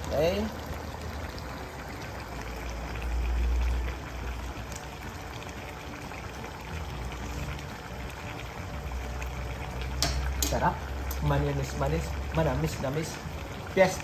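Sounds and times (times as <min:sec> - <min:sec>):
stew bubbling in a pot: 0:00.0 - 0:14.0.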